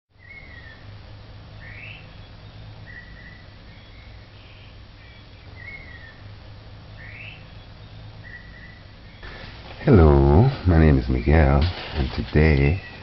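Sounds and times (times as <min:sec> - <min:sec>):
steady low hum: 0:00.2 - 0:13.0.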